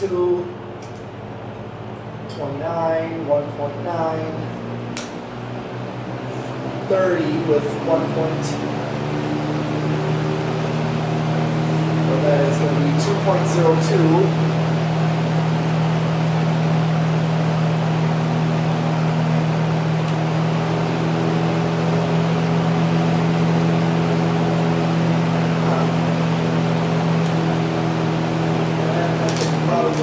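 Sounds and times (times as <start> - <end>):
fan air rushing: 0.0 - 30.0
higher hum: 0.0 - 30.0
low motor hum: 0.0 - 30.0.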